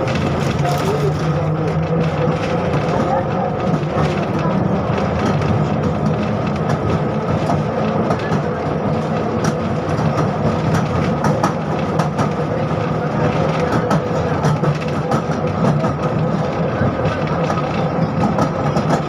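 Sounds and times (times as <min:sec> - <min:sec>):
tram motor rumble and hum: 0:00.0 - 0:19.0
wheels clicking on rails: 0:00.0 - 0:19.0.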